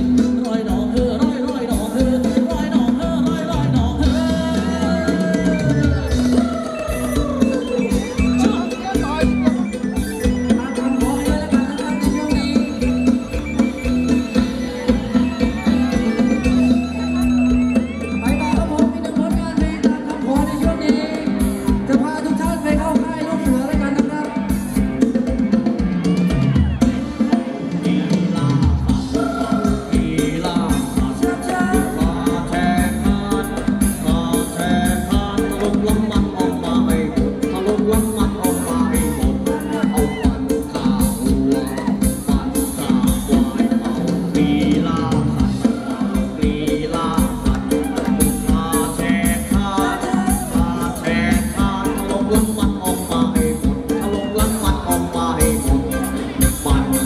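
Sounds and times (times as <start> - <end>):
live band dance music: 0.0 - 57.0
person singing: 0.0 - 57.0
steady drum beat: 0.0 - 57.0
gliding melody line: 0.2 - 57.0.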